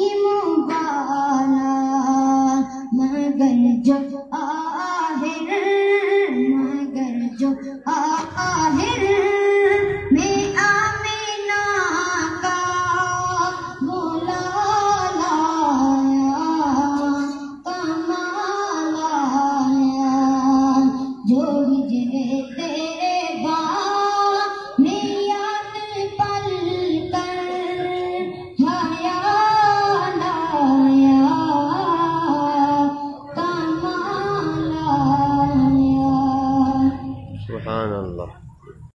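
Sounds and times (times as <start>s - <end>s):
high voice singing a hymn: 0.0s - 37.9s.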